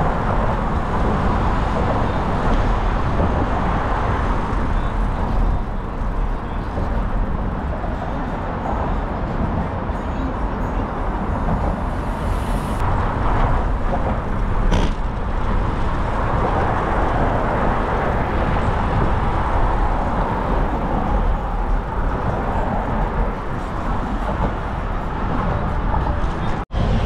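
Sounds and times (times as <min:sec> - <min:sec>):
road traffic noise: 0:00.0 - 0:27.0
wind rumble on microphone: 0:00.0 - 0:27.0.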